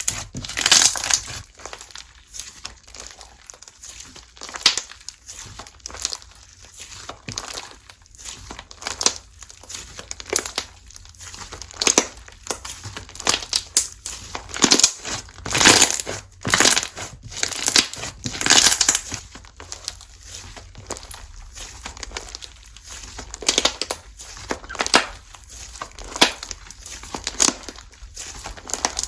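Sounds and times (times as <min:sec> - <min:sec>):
slime crackling and squelching: 0:00.0 - 0:29.0.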